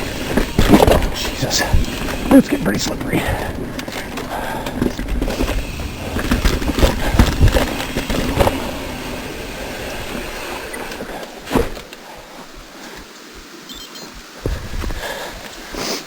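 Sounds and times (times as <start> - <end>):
mountain bike rattling on dirt trail: 0.0 - 12.9.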